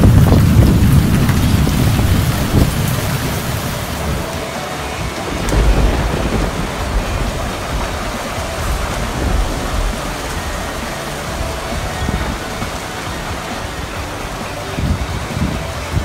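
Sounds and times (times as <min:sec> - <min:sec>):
deep thunder rumble: 0:00.0 - 0:16.0
heavy rain pouring: 0:00.0 - 0:16.0.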